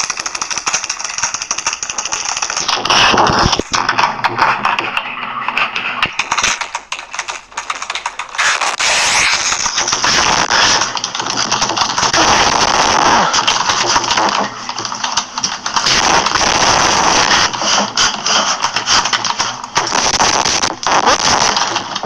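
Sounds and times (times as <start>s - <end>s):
fast keyboard typing: 0.0s - 22.0s.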